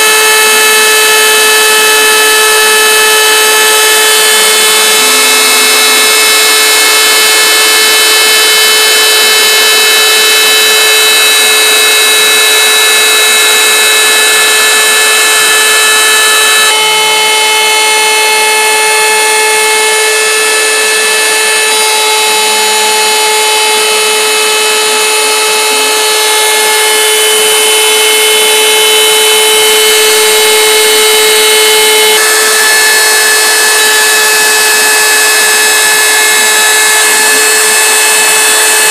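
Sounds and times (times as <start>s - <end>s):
router spindle motor whining: 0.0s - 38.9s.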